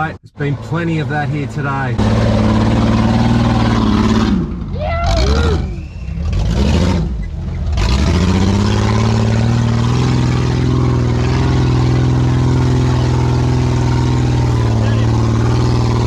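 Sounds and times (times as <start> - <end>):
engine revving hard: 0.4 - 16.0.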